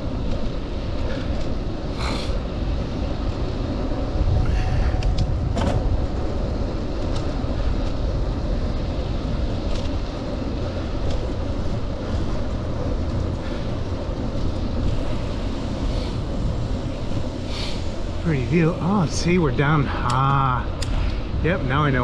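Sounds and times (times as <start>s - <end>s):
bicycle clicks: 0.0s - 18.2s, 19.0s - 21.4s
wind rushing on microphone: 0.0s - 22.0s.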